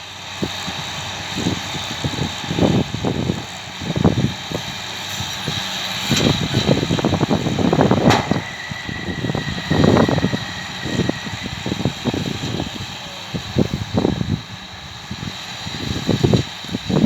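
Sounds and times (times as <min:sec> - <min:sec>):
tractor engine rumble: 0:00.0 - 0:17.0.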